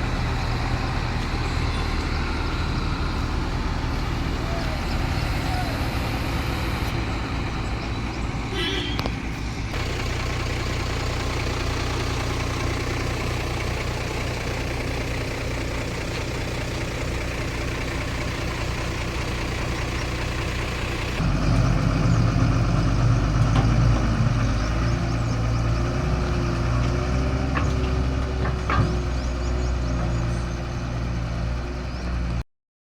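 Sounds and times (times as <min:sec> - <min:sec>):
heavy diesel engine running: 0:00.0 - 0:32.4.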